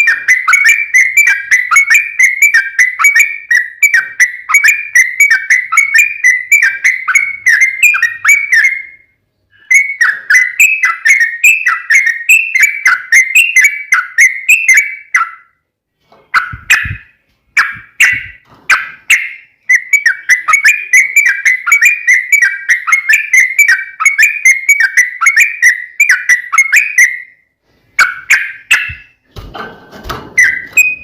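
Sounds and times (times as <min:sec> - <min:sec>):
bird singing whistled notes: 0:00.0 - 0:15.6, 0:16.4 - 0:27.4, 0:28.0 - 0:29.2, 0:30.4 - 0:31.0.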